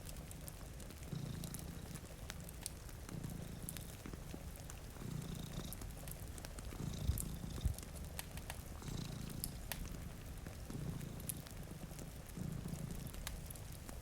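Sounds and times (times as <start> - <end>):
cat purring: 0.0 - 14.0
rain hissing: 0.0 - 14.0
wood fire crackling: 0.0 - 14.0.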